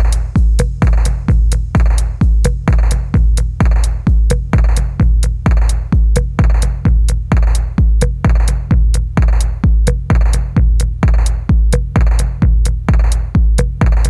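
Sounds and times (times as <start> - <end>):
electronic music with kick drum: 0.0 - 14.0.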